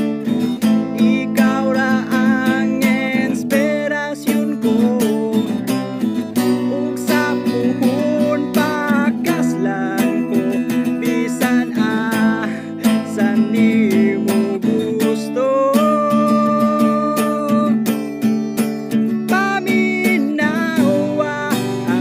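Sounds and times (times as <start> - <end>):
acoustic guitar strumming: 0.0 - 22.0
man singing: 0.0 - 22.0.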